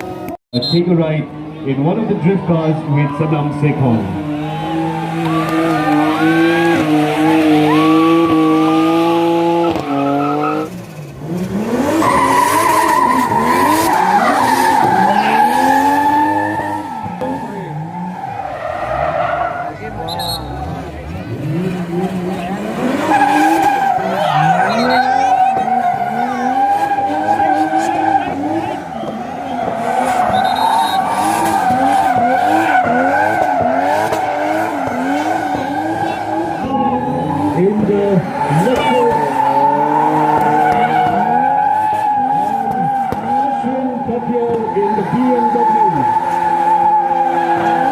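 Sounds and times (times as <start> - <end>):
car engine revving high: 1.4 - 47.9.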